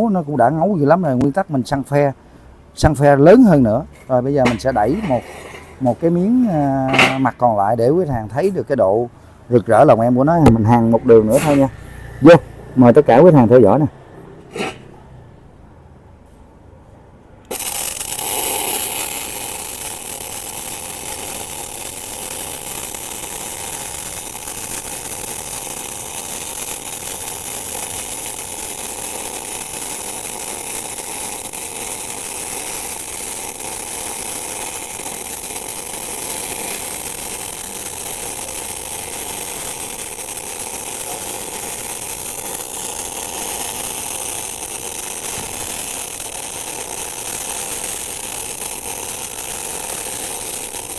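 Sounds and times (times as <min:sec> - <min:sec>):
welding arc crackling and hissing: 0:00.0 - 0:02.2, 0:02.8 - 0:13.8, 0:14.4 - 0:15.0, 0:17.5 - 0:50.9.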